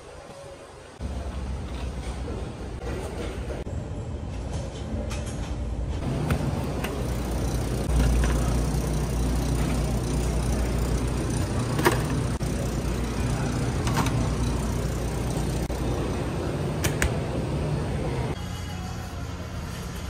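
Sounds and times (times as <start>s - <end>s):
refrigerated display case hum: 0.1s - 20.0s.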